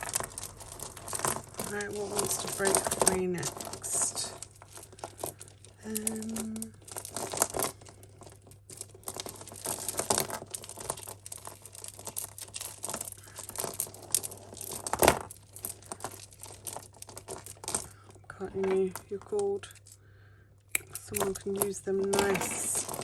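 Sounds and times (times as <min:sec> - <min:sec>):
handling rustle: 0:00.0 - 0:20.0, 0:20.8 - 0:23.0
jewellery chains and beads rattling: 0:00.0 - 0:20.1, 0:20.8 - 0:23.0.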